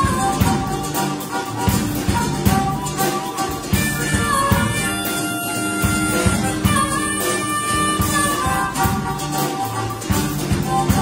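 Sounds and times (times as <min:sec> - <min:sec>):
drum kit beat: 0:00.0 - 0:11.0
harmonica: 0:00.0 - 0:11.0.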